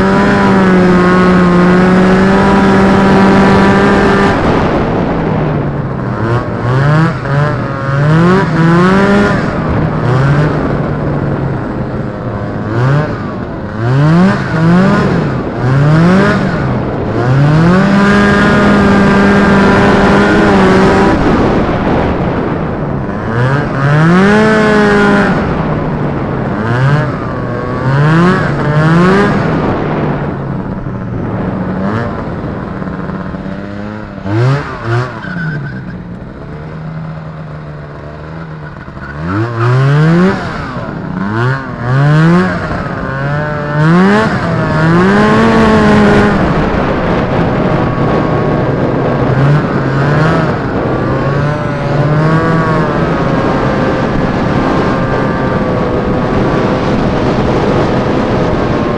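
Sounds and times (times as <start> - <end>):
snowmobile engine revving: 0.0 - 58.9.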